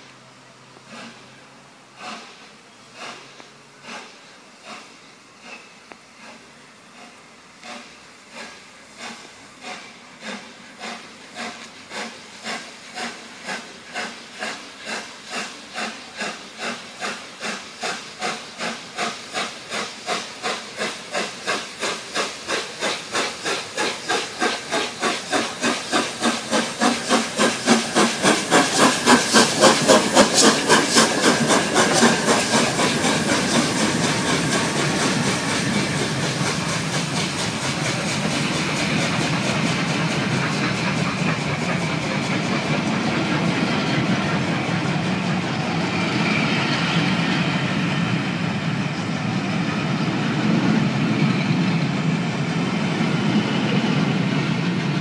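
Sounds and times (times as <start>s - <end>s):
steam locomotive exhaust beat: 0.0s - 55.0s
train coaches rumbling past: 0.0s - 55.0s.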